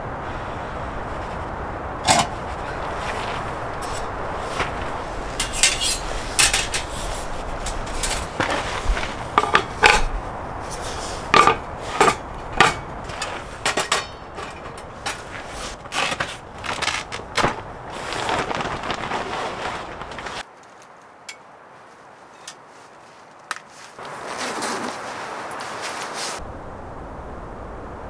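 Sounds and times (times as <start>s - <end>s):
wind-like hiss: 0.0s - 28.0s.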